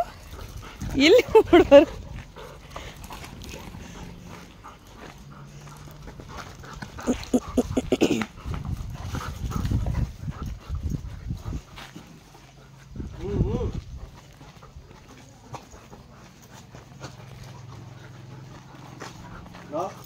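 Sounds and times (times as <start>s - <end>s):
dogs barking and yipping: 0.0s - 12.9s, 14.1s - 20.0s.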